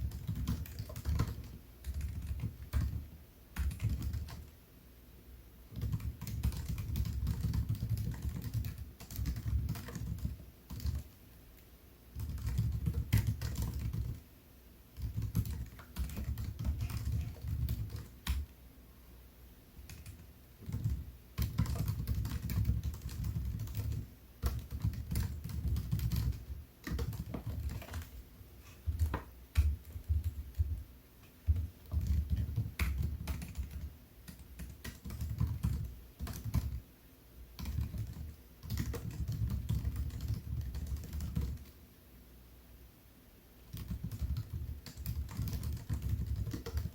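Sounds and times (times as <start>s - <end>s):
laptop keyboard typing: 0.0s - 4.6s, 5.7s - 11.2s, 12.1s - 14.2s, 15.0s - 18.5s, 19.8s - 28.2s, 28.9s - 30.8s, 31.4s - 36.8s, 37.6s - 41.8s, 43.7s - 46.9s.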